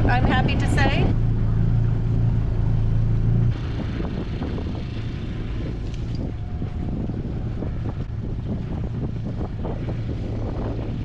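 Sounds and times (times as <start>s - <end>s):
low motor hum: 0.0s - 11.0s
water noise: 0.0s - 11.0s
wind buffeting microphone: 0.0s - 11.0s.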